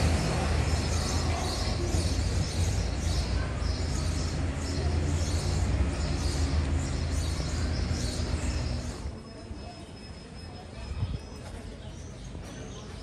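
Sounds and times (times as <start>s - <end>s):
low street rumble: 0.0s - 13.0s
small birds chirping: 0.0s - 13.0s.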